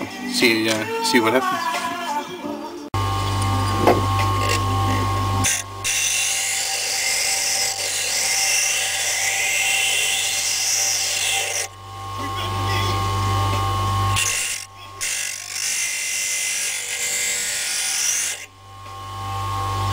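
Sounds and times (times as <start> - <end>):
electric grinder running: 3.0 - 19.9.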